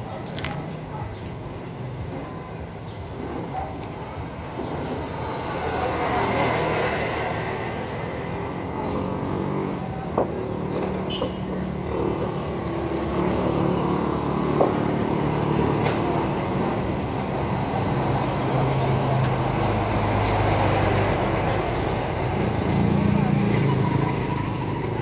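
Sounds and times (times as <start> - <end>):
traffic passing on street: 0.0 - 25.0.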